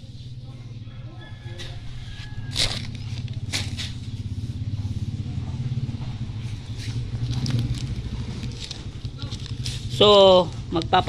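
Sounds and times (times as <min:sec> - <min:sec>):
engine running with pulsing rumble: 0:00.0 - 0:11.0.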